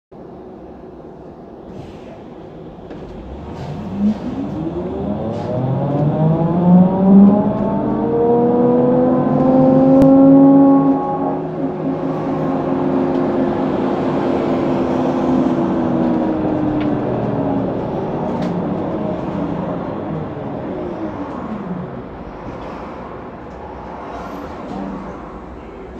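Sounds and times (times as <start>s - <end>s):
trolleybus electric drive whining: 0.2s - 25.9s.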